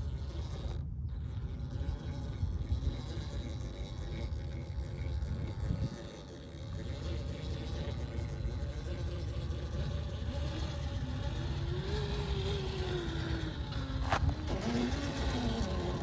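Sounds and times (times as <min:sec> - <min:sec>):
rc motor whining: 0:00.0 - 0:16.0.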